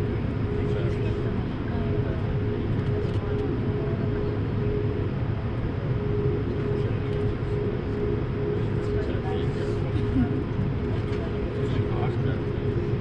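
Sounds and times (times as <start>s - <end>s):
airplane cabin rumble: 0.0s - 13.0s
thin steady hum: 0.0s - 13.0s.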